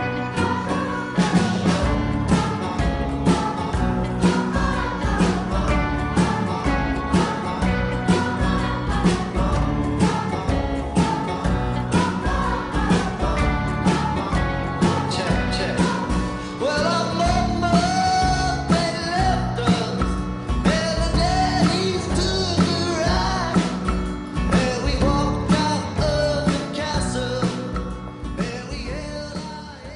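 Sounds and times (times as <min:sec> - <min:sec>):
guitar: 0:00.0 - 0:29.9
person singing over a beat: 0:00.0 - 0:29.9.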